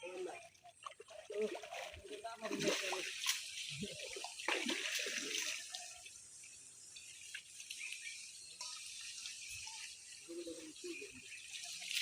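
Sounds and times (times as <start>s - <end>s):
water drips: 0.0s - 12.0s
water splashing and trickling: 0.0s - 12.0s.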